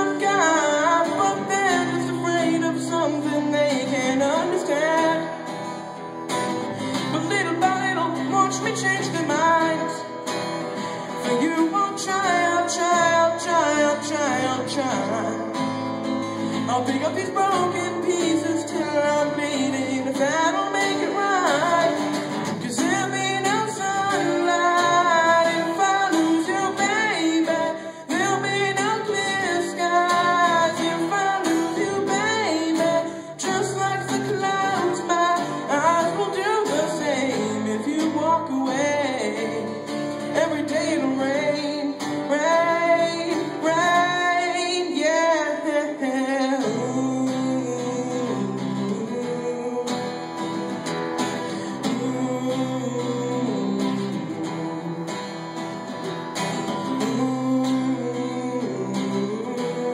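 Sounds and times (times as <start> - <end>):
person singing: 0.0 - 6.0, 6.7 - 59.9
acoustic guitar: 0.0 - 59.9.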